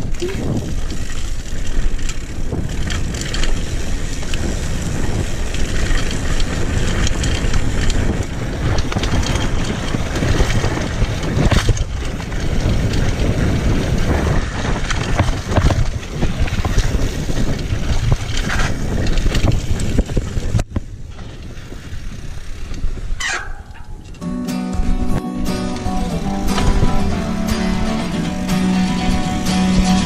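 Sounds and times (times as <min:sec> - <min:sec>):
bike rattling and knocking: 0:00.0 - 0:30.0
wind buffeting microphone: 0:00.0 - 0:30.0.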